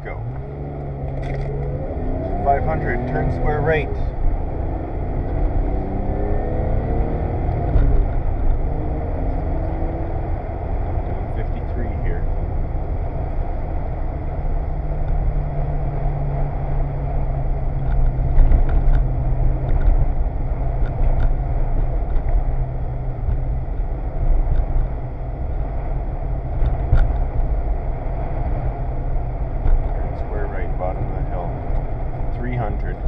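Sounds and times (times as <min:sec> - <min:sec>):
car engine running at speed: 0:00.0 - 0:33.0
tyre and road noise: 0:00.0 - 0:33.0.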